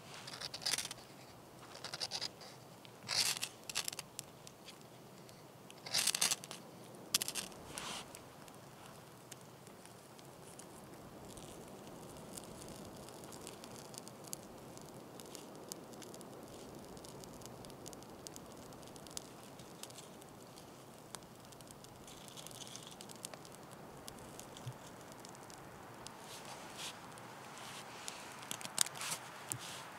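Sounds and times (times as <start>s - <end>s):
soft steady hiss: 0.0s - 29.9s
tinder crackling: 0.0s - 29.9s.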